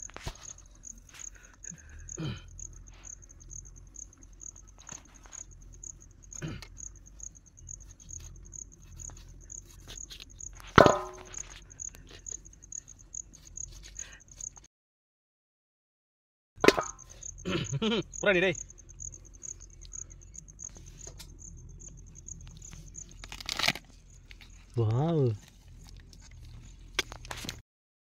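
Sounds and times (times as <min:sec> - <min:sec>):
insect chirping: 0:00.0 - 0:14.7, 0:16.6 - 0:27.3
handling ticks: 0:02.5 - 0:14.7, 0:16.8 - 0:27.6.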